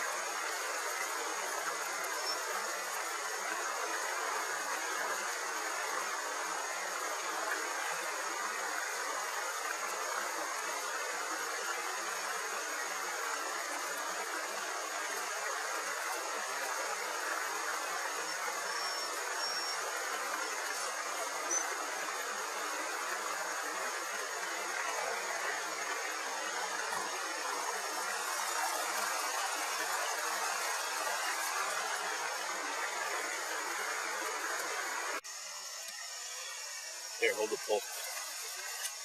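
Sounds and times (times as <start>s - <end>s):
river water rushing: 0.0s - 35.8s.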